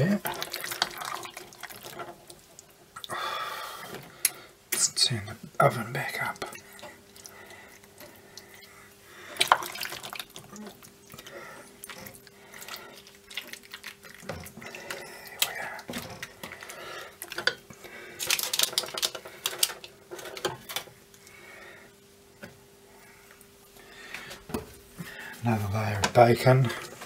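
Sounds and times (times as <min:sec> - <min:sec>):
pasta squelching: 0:00.0 - 0:05.1, 0:06.0 - 0:27.0.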